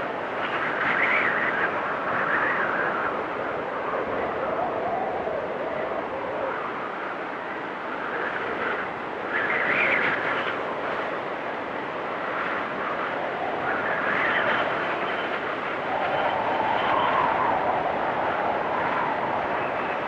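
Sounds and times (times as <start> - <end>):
storm wind whistling: 0.0 - 20.0.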